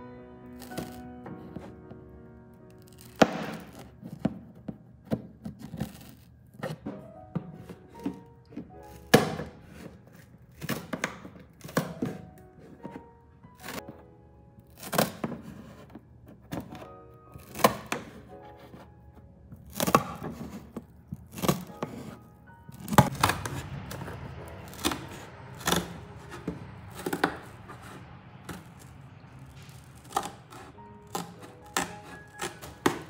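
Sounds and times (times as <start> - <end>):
scissors cutting cardboard: 0.6 - 1.8, 2.7 - 13.9, 14.7 - 33.0.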